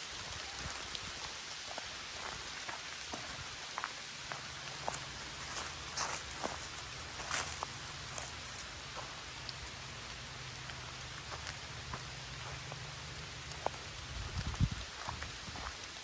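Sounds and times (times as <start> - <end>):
raindrops ticking close by: 0.0 - 16.0
steady rain hiss: 0.0 - 16.0.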